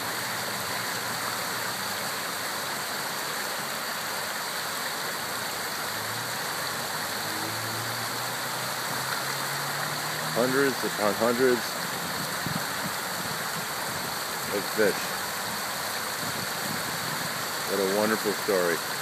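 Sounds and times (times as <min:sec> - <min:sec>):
river water rushing through channel: 0:00.0 - 0:19.0.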